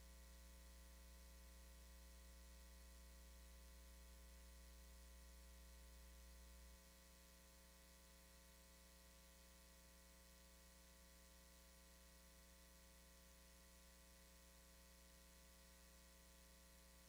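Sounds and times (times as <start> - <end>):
faint hum and hiss: 0.0 - 17.0.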